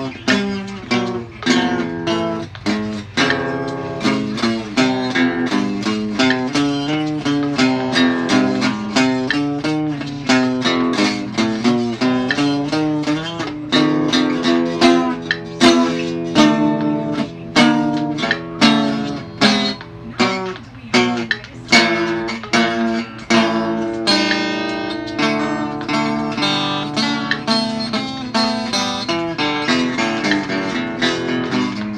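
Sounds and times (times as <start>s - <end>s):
acoustic guitar music: 0.0s - 31.9s.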